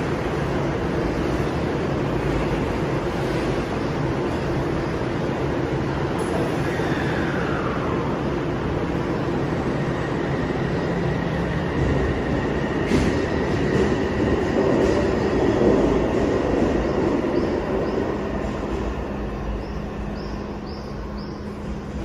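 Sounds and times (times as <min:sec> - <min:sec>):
electric train running in tunnel: 0:00.0 - 0:22.0.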